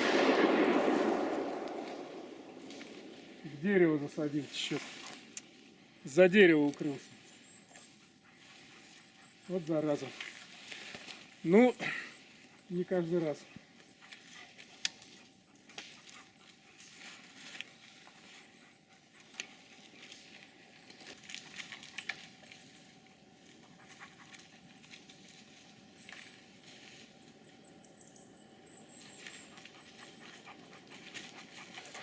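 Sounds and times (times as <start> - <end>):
twigs and leaves crackling underfoot: 0.0 - 27.8, 28.9 - 32.0.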